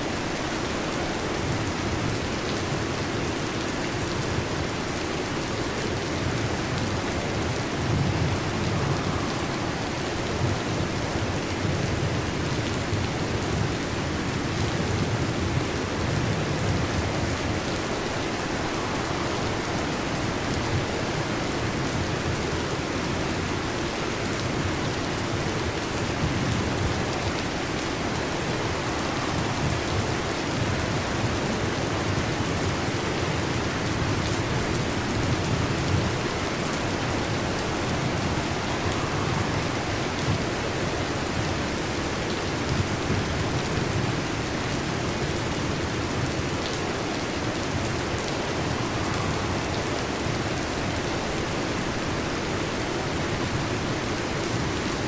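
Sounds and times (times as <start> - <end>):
heavy rain on a metal roof: 0.0 - 55.0.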